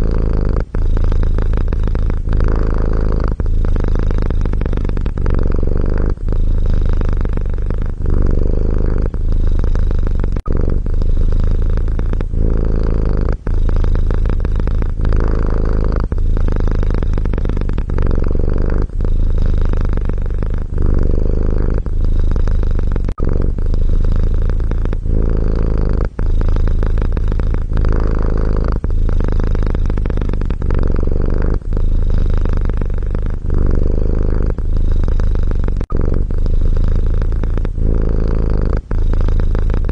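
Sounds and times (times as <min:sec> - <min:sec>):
cat purring loudly: 0:00.0 - 0:39.9.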